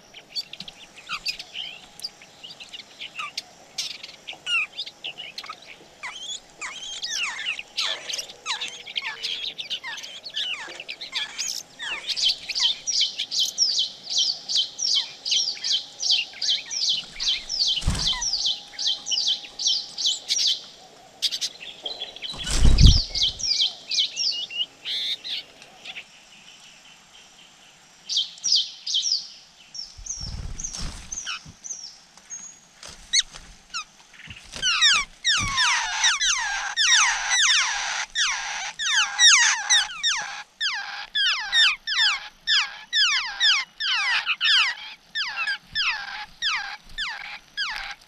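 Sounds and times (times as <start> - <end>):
nestlings begging chirps: 0.0 - 26.0, 29.8 - 48.0.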